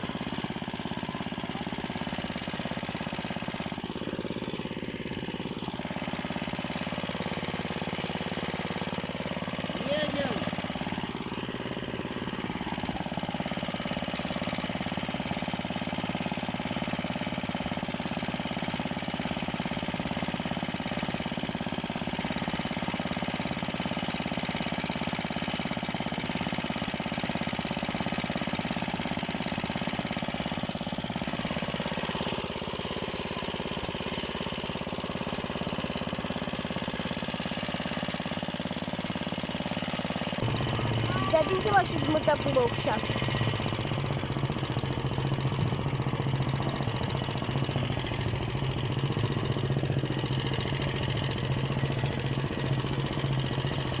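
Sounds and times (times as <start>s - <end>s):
single-cylinder engine clattering: 0.0s - 54.0s.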